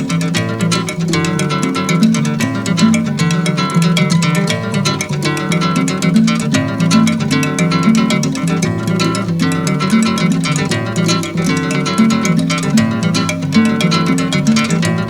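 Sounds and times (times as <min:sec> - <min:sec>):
plucked guitar-like strings: 0:00.0 - 0:15.0
quick percussion strikes: 0:00.0 - 0:15.0.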